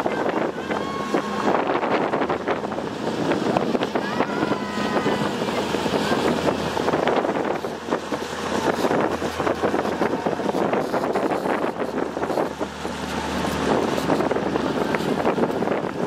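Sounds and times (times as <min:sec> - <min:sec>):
motorboat engine running: 0:00.0 - 0:16.0
water rushing in wake: 0:00.0 - 0:16.0
wind on microphone: 0:00.0 - 0:16.0.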